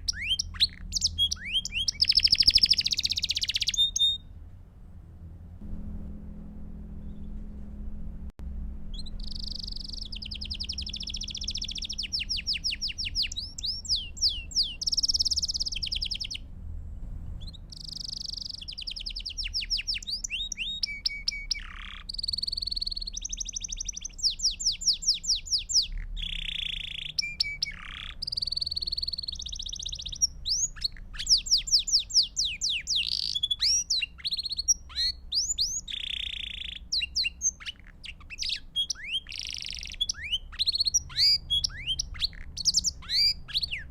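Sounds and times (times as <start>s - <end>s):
canary singing trills: 0.0s - 4.3s, 8.9s - 43.9s.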